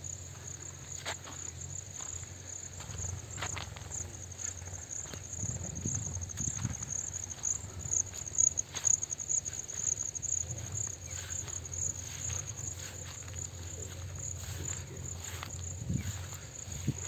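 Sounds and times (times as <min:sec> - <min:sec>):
insects pulsing chorus: 0:00.0 - 0:17.0.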